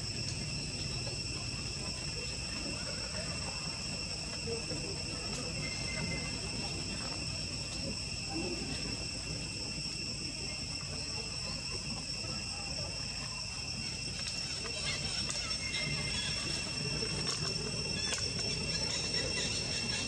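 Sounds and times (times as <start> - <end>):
insects ringing drone: 0.0 - 20.0.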